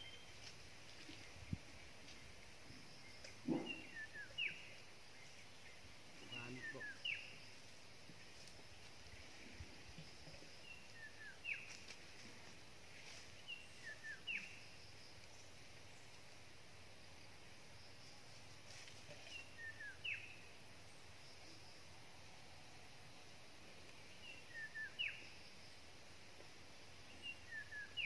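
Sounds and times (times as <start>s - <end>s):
faint outdoor background noise: 0.0s - 28.0s.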